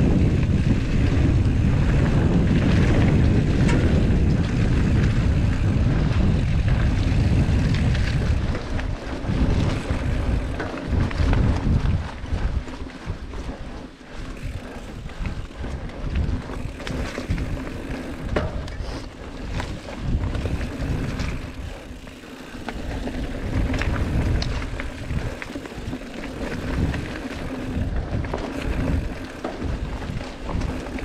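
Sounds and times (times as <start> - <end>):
bike clattering over bumps: 0.0 - 31.0
tyres on dirt: 0.0 - 31.0
wind buffeting microphone: 0.0 - 31.0.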